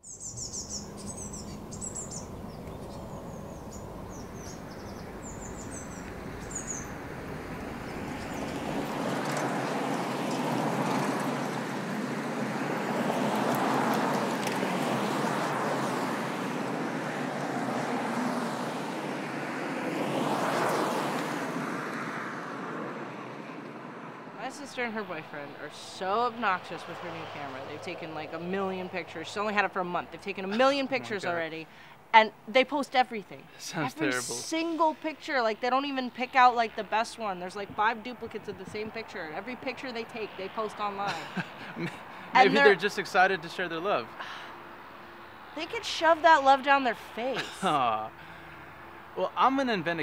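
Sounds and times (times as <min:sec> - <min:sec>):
birds chirping: 0:00.0 - 0:19.4, 0:24.4 - 0:49.8
cars passing: 0:00.0 - 0:50.0
steady traffic noise: 0:00.0 - 0:50.0.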